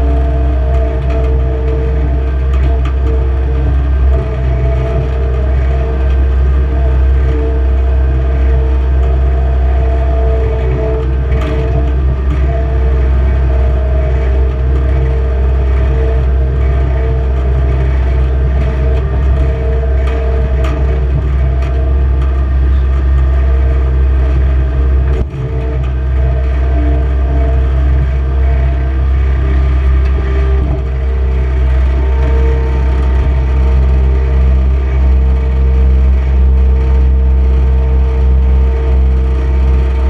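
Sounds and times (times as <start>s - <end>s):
skid steer engine rumbling: 0.0s - 40.0s.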